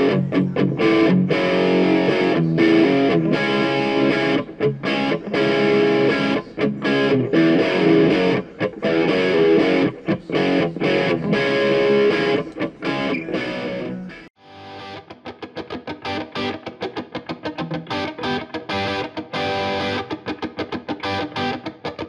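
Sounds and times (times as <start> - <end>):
distorted electric guitar music: 0.0 - 22.0.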